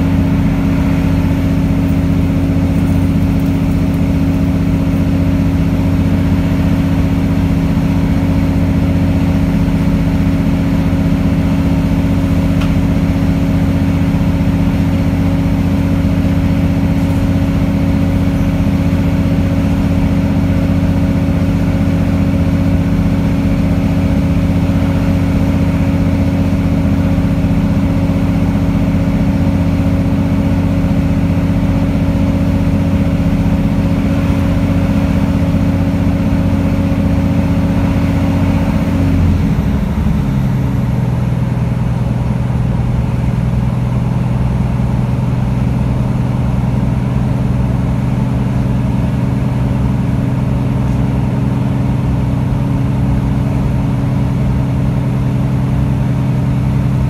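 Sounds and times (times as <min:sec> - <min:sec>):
train diesel engine running: 0:00.0 - 0:57.0.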